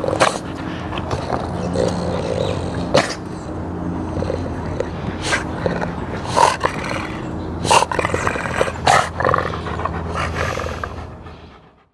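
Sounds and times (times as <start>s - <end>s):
dog growling: 0.0s - 11.9s.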